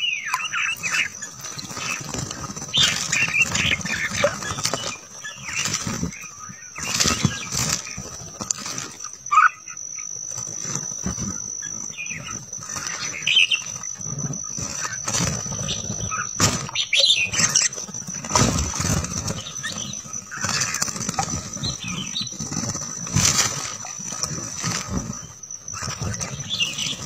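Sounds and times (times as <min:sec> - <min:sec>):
birds chirping: 0:00.0 - 0:27.0
steady high-pitched tone: 0:00.0 - 0:27.0
wings fluttering: 0:00.0 - 0:27.0.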